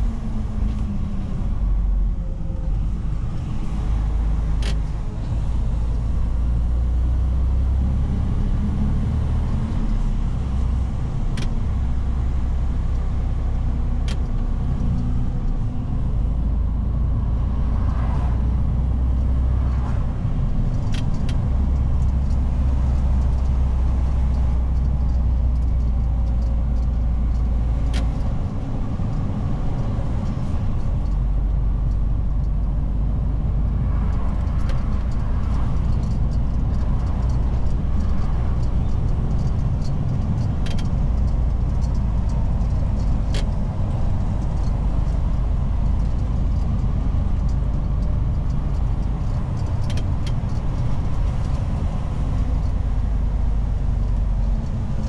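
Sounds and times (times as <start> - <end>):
road noise: 0.0 - 55.0
truck diesel engine drone: 0.0 - 55.0.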